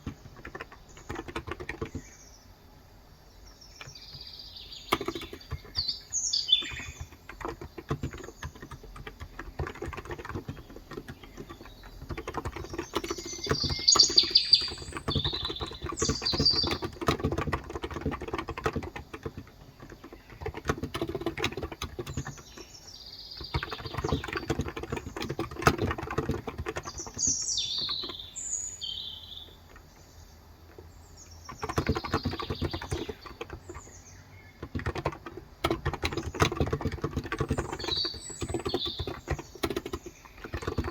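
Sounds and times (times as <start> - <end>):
keyboard typing: 0.0 - 2.1, 3.7 - 28.4, 30.6 - 40.9
birds chirping: 0.0 - 40.9.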